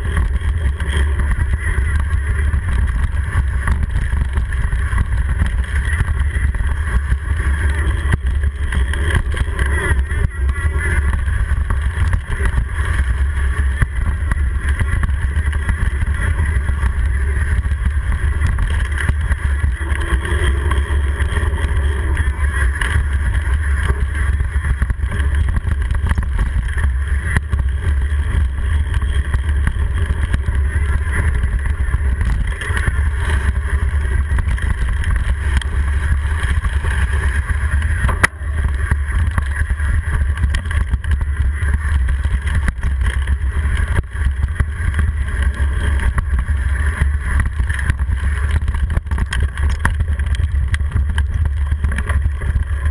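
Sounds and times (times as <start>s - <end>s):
bike knocks and rattles: 0.0s - 52.9s
wind and trail vibration rumble: 0.0s - 52.9s.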